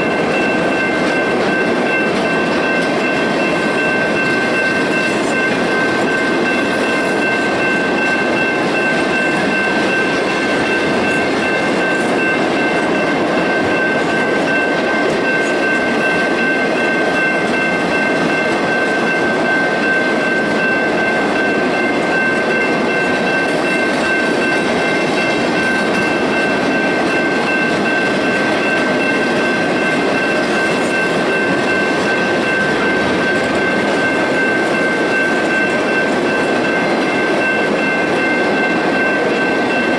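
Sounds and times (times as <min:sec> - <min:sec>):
train cars rolling on rails: 0:00.0 - 0:39.9.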